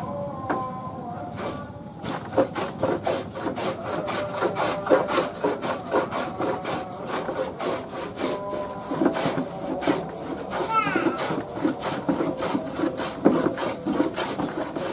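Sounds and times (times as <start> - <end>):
plane shaving wood: 1.3 - 14.9.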